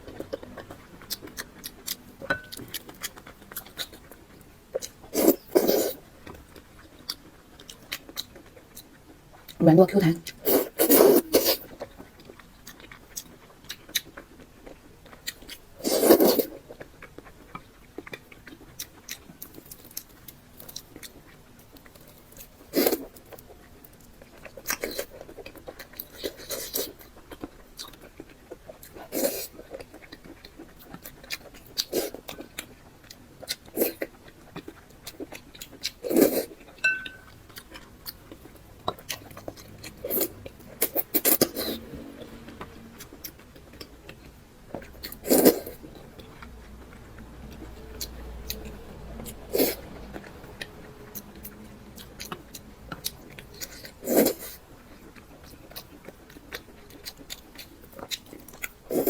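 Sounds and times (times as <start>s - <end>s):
wet chewing and mouth smacking: 10.2s - 59.0s.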